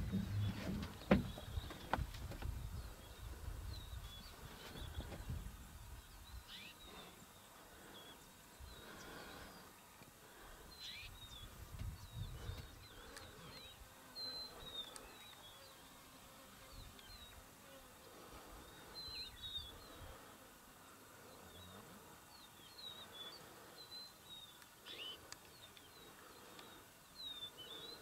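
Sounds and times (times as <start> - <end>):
birds chirping: 0.0 - 16.0, 18.0 - 20.3, 21.2 - 28.0.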